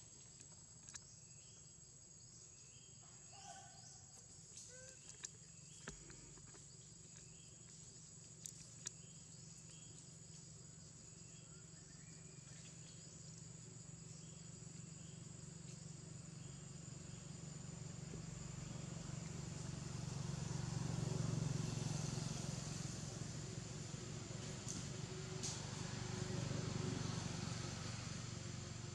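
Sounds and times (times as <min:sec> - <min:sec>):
short insect chirps: 0:00.0 - 0:26.2
high insect drone: 0:00.0 - 0:28.9.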